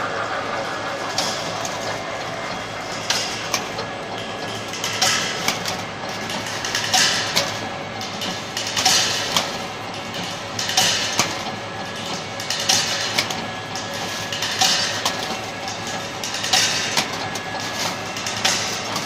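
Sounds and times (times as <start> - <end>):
machine running: 0.0 - 19.0.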